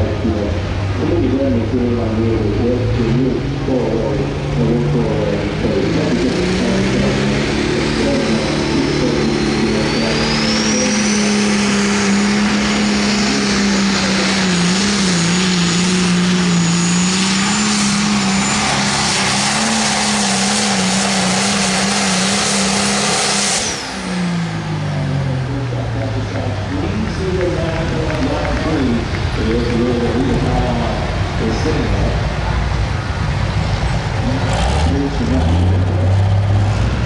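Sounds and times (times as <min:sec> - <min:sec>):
diesel tractor engine at full throttle: 0:00.0 - 0:37.0.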